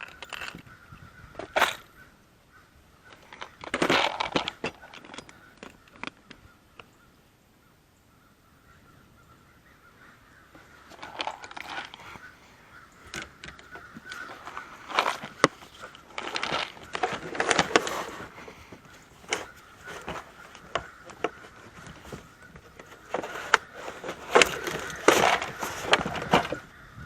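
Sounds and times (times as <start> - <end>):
crows cawing: 0.0 - 3.7, 8.1 - 27.0.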